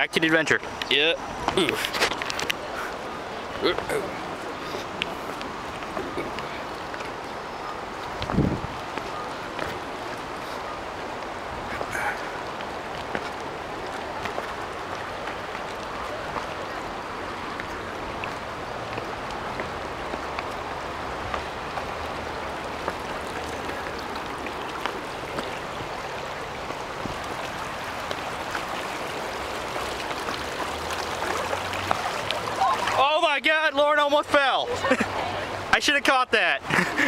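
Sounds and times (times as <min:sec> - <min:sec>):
shallow river water rushing: 0:00.0 - 0:37.0.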